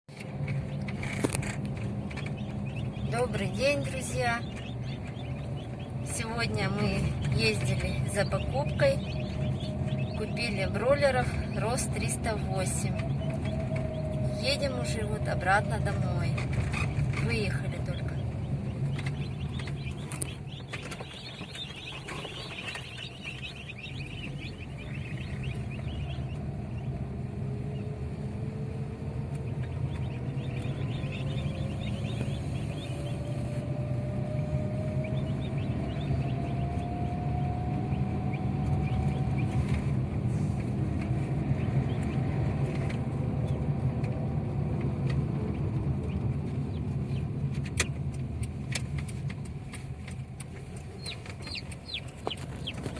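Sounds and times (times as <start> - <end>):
car road and engine noise: 0.1 - 52.9
chicks peeping: 0.2 - 43.7, 45.3 - 52.9.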